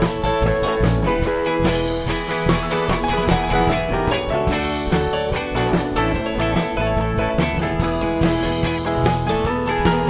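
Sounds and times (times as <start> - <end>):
live rock band playing: 0.0 - 10.0.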